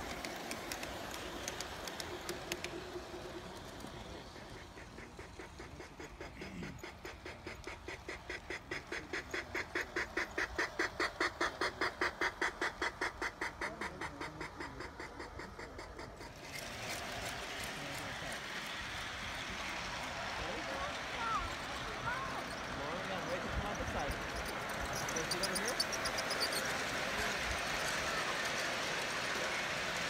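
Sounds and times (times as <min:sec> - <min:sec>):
model steam locomotive chuffing: 0:00.0 - 0:30.0.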